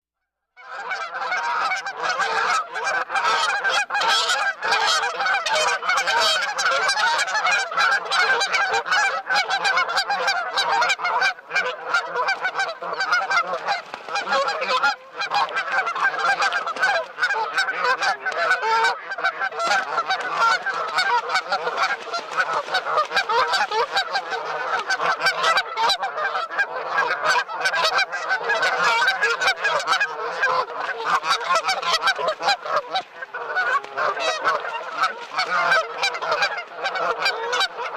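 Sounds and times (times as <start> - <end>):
flock of birds calling: 0.7 - 37.9.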